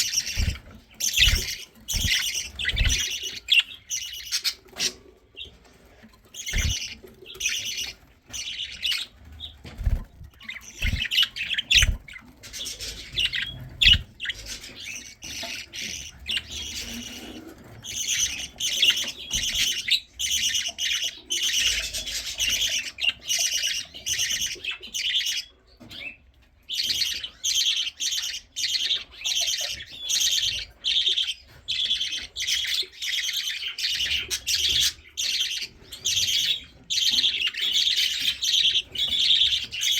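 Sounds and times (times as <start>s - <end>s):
chicks raspy chirping: 0.0s - 39.9s.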